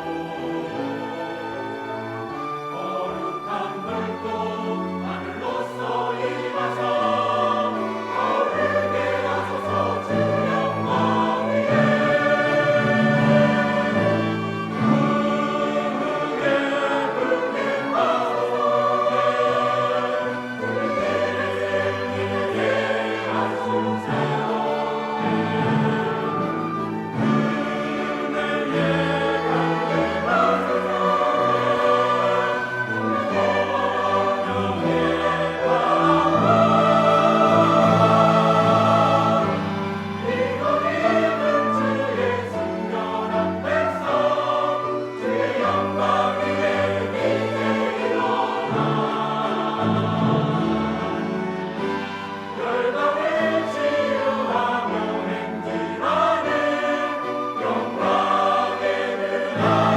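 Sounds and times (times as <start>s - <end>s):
church choir singing: 0.0s - 59.9s
instrumental accompaniment: 0.0s - 59.9s.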